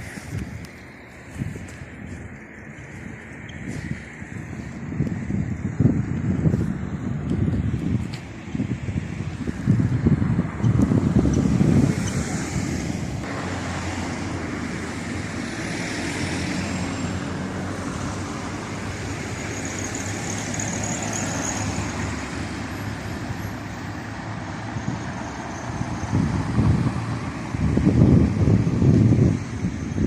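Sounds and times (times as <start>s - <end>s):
cars passing with low hum: 0.0s - 30.0s.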